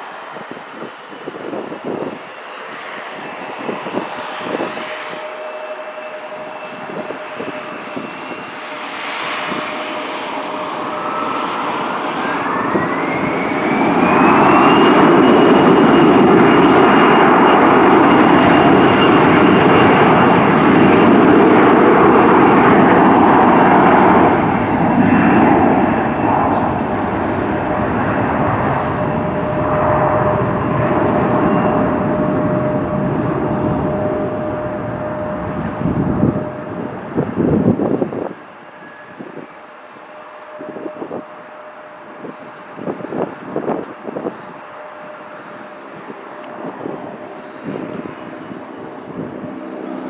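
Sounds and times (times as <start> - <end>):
jet engines roaring and whining: 0.0 - 50.0.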